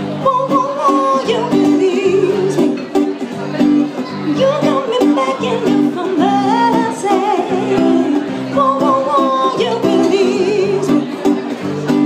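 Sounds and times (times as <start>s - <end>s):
woman singing into a microphone: 0.0s - 3.1s, 4.2s - 11.4s
acoustic guitar: 0.0s - 12.0s.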